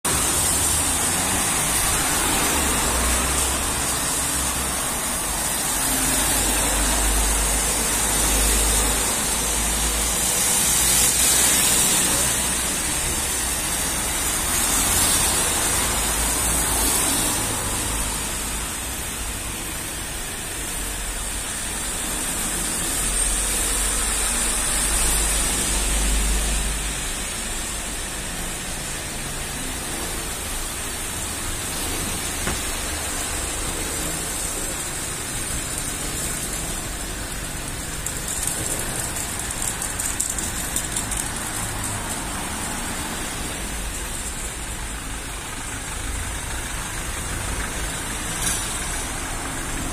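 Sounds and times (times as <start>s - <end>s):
tyres hissing on wet road: 0.1s - 49.9s.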